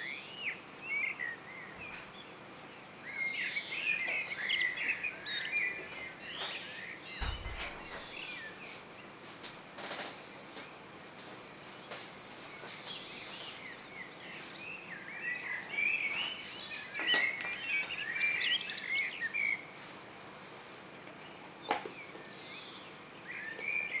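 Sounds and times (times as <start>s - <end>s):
blackbird singing: 0.0s - 9.1s, 12.4s - 19.9s, 21.2s - 24.0s.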